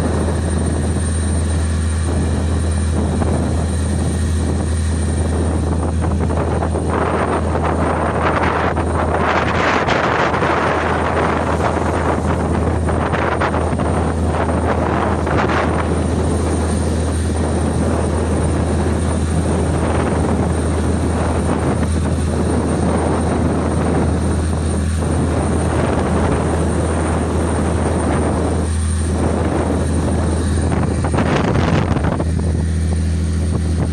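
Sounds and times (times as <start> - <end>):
boat engine droning: 0.0 - 33.9
rushing water: 0.0 - 33.9
wind: 0.0 - 33.9.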